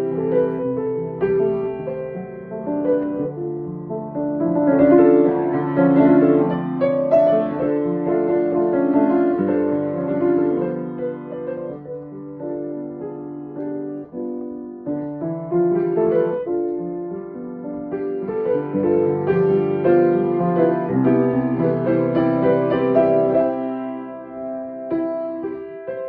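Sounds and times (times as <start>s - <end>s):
grand piano melody: 0.0s - 26.0s.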